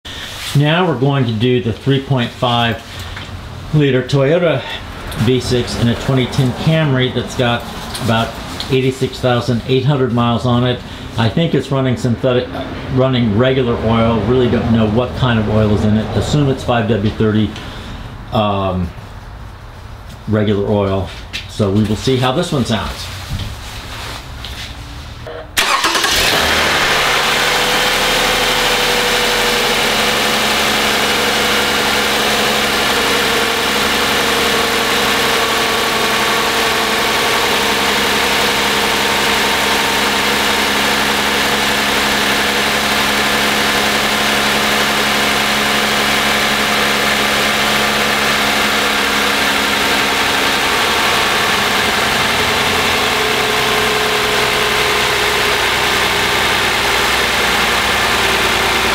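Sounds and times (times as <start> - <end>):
car engine starting and idling: 1.2 - 19.0, 24.9 - 58.9.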